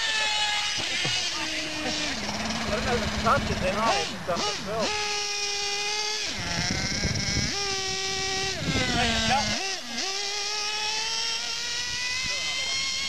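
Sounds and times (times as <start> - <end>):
toy truck motor revving: 0.0 - 13.0.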